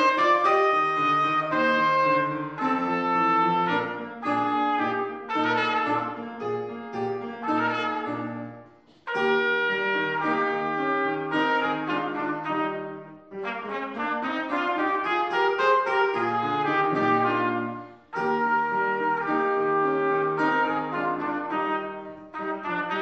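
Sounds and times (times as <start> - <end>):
grand piano accompaniment: 0.0 - 23.0
trumpet melody: 0.0 - 23.0.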